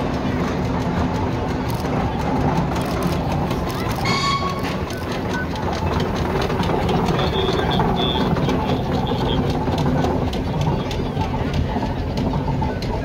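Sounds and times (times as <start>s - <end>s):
steam traction engine running: 0.0s - 13.0s.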